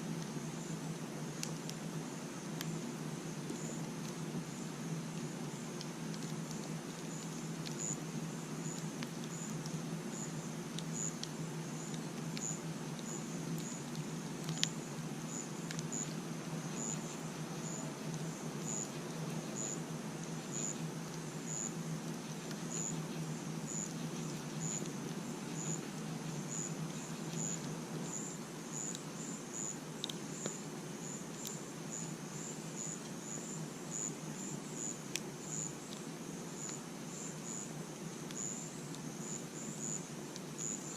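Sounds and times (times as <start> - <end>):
cricket chirping: 0.0 - 40.9
campfire crackling and popping: 0.1 - 33.2.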